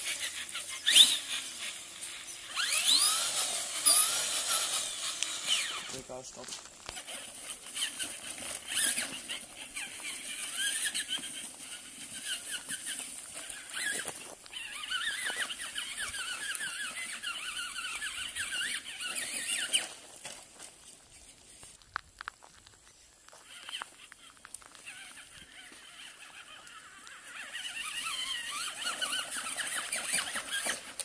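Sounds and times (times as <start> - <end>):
electric motor and gears whining: 0.0 - 31.0.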